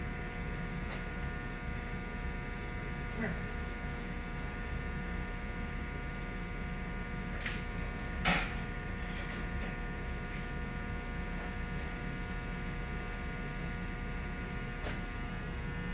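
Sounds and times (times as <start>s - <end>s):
electrical hum: 0.0s - 15.9s.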